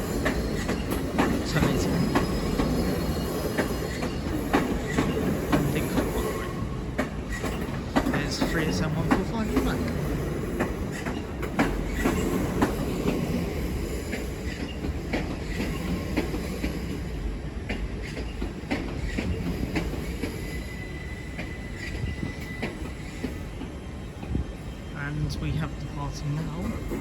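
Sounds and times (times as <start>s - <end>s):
train wheels clicking over rail joints: 0.0s - 24.4s.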